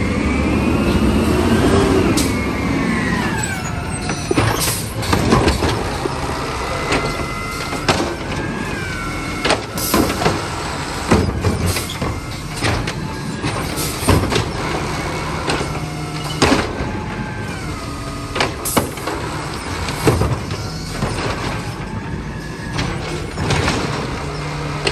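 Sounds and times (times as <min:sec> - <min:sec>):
hydraulic whine: 0:00.0 - 0:24.9
truck engine drone: 0:00.0 - 0:24.9
plastic carts clanking and banging: 0:03.3 - 0:24.9.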